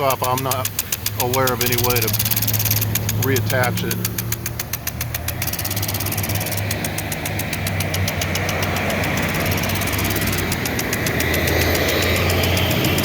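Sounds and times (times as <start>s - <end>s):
impact sprinkler clacking: 0.0s - 13.0s.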